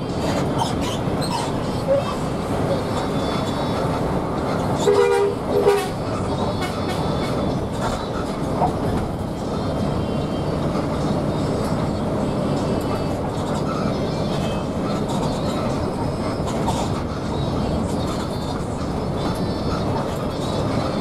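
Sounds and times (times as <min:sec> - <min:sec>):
coach diesel engine: 0:00.0 - 0:21.0
tyres on road: 0:00.0 - 0:21.0.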